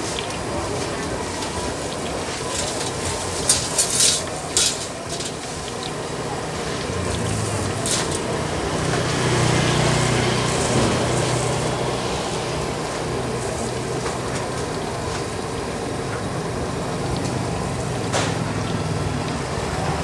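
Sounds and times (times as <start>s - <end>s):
engine humming: 0.0s - 20.0s
oil frying in a wok: 0.0s - 20.0s.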